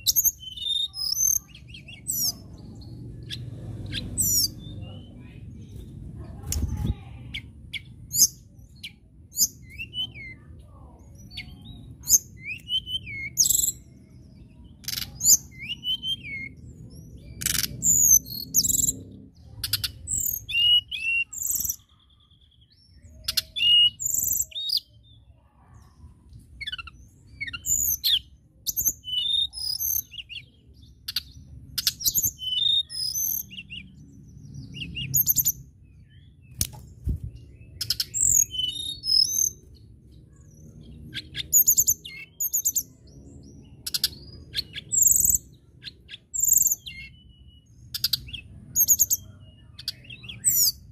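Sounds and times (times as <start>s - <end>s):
bird singing whistled notes: 0.0s - 5.2s, 7.4s - 10.5s, 11.1s - 19.0s, 19.6s - 25.2s, 26.6s - 50.9s.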